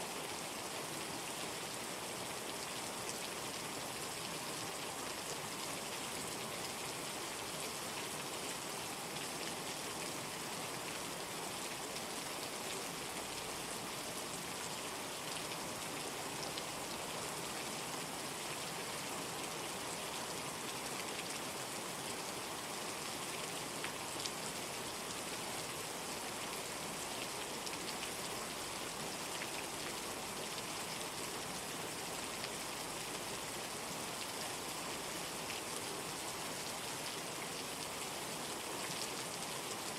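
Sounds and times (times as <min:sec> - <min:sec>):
heavy rain: 0:00.1 - 0:39.9.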